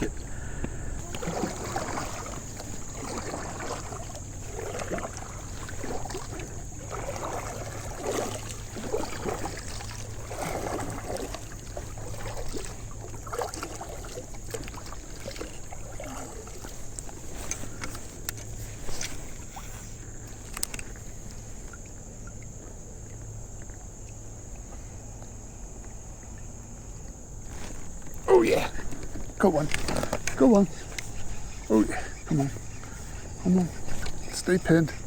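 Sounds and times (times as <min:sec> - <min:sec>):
water lapping against kayak hull: 0:00.0 - 0:35.0.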